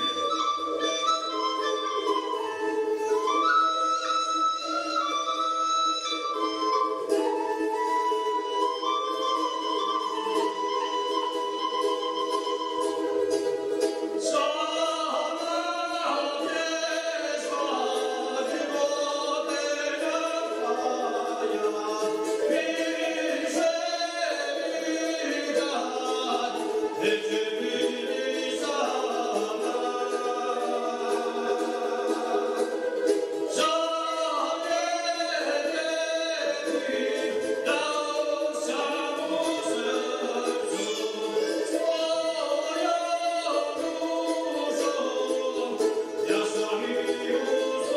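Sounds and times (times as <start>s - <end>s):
ornamented wind instrument melody: 0.0s - 47.9s.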